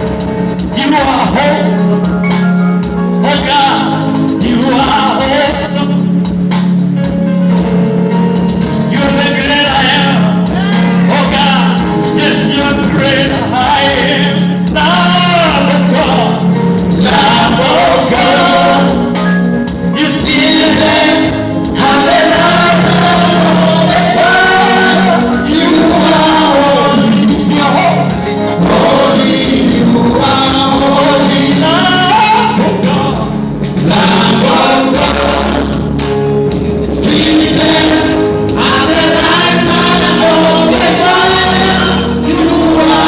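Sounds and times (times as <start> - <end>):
instrumental accompaniment: 0.0 - 43.0
voices singing gospel: 0.0 - 43.0.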